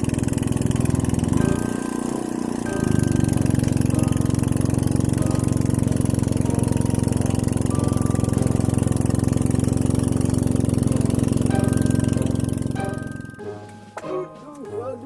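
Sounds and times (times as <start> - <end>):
small engine running steadily: 0.0 - 13.4.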